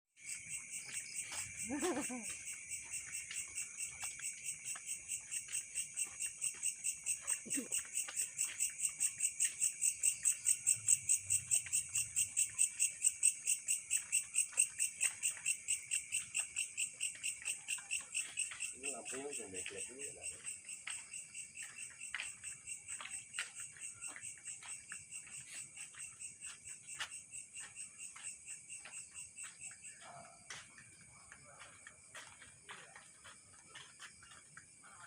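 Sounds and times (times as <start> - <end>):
insect chirping: 0.2 - 35.0.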